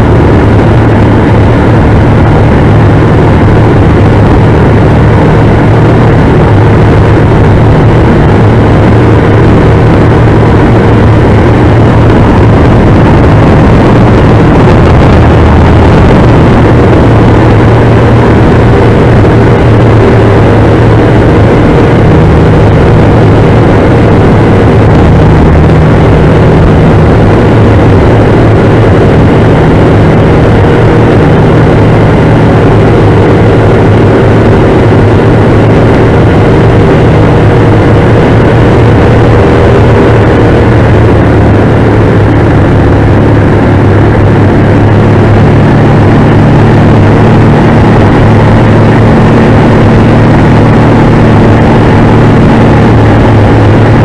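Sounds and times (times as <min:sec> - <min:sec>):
biplane engine and propeller: 0:00.0 - 0:54.0
wind rush: 0:00.0 - 0:54.0.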